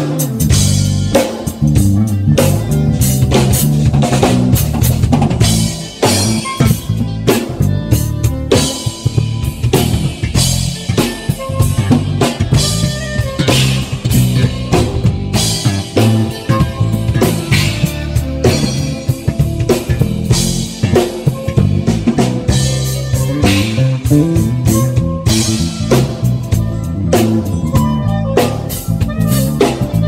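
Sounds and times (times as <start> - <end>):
drum kit beat: 0.0 - 30.0
electric bass line: 0.0 - 30.0.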